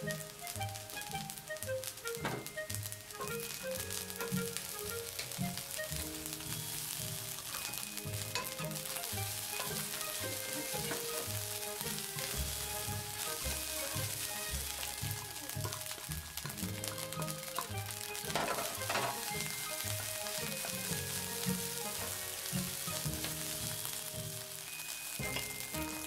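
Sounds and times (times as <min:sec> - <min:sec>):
background music with a beat: 0:00.0 - 0:26.0
rice sizzling in a frying pan: 0:00.0 - 0:26.0
wooden spatula scraping a pan: 0:02.0 - 0:26.0.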